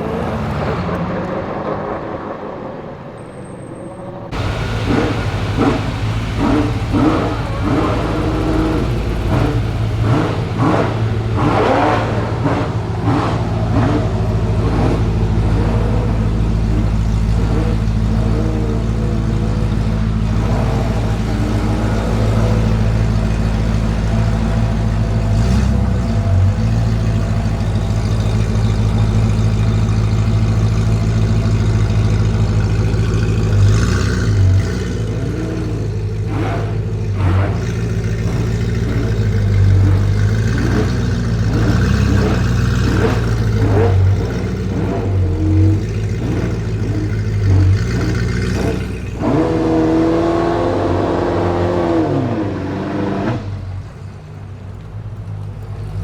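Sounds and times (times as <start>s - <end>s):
car engine revving with crackles: 0.0s - 56.0s.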